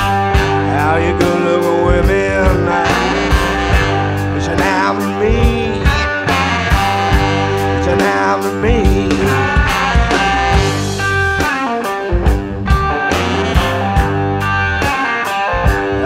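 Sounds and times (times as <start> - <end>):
bending electric guitar notes: 0.0 - 16.0
rock band playing: 0.0 - 16.0.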